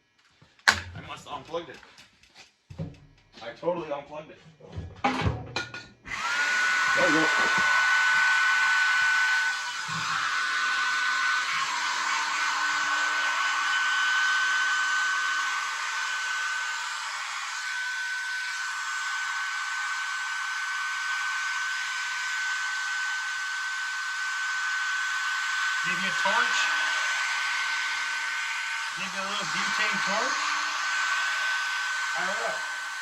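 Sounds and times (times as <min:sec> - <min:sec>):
hot-air blower running: 0:00.7 - 0:00.9, 0:06.1 - 0:33.0.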